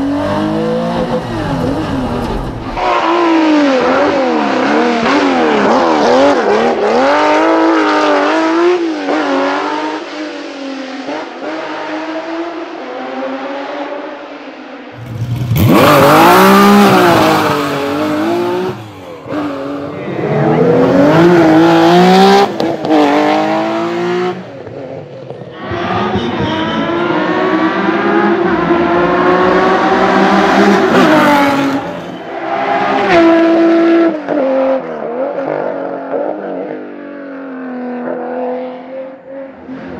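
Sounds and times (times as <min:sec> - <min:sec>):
rally car engine revving: 0:00.0 - 0:14.2, 0:15.0 - 0:39.9.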